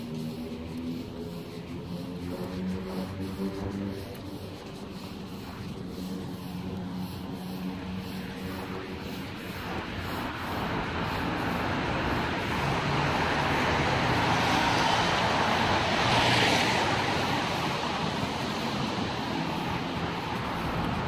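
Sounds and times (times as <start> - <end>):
tyres hissing on wet road: 0.0 - 21.0.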